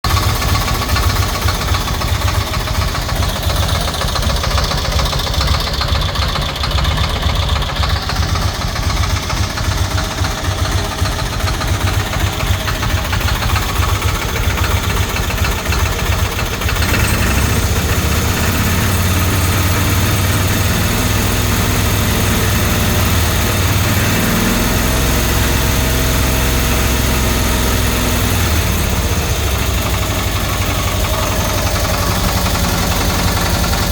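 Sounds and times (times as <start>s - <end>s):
small engine running roughly: 0.0s - 33.9s.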